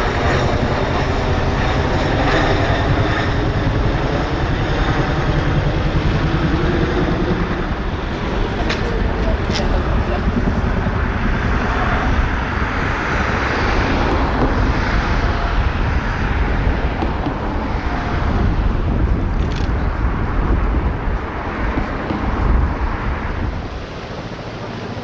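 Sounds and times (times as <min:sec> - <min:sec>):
helicopter engine and air noise: 0:00.0 - 0:25.0
helicopter rotors thudding: 0:00.0 - 0:25.0.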